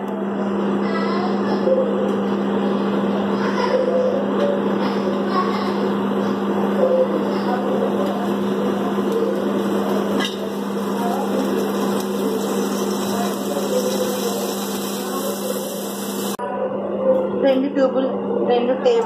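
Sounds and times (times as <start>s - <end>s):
steady motor hum: 0.0s - 19.0s.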